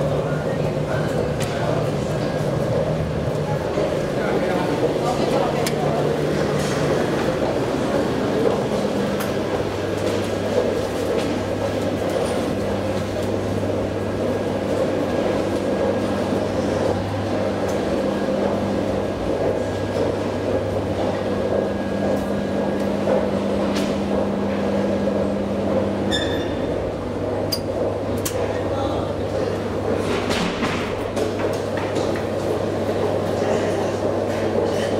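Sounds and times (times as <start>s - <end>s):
elevator mechanical hum: 0.0s - 34.9s.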